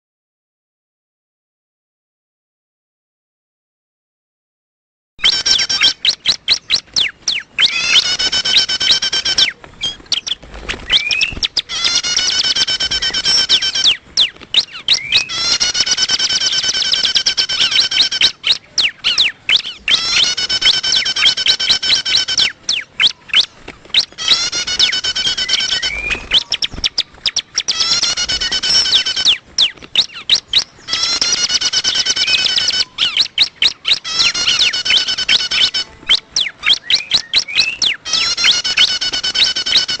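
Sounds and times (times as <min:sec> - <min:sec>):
bird buzzy chirps: 0:05.2 - 0:40.0.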